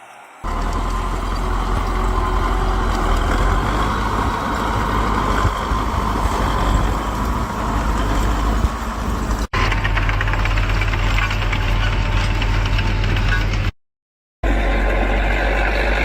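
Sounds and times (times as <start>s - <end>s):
bulldozer diesel engine rumbling: 0.4s - 13.8s.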